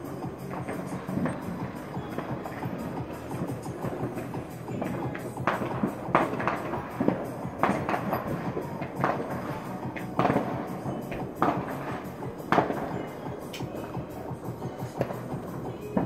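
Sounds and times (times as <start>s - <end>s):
background music: 0.0s - 16.0s
fireworks bangs and crackles: 0.0s - 16.0s.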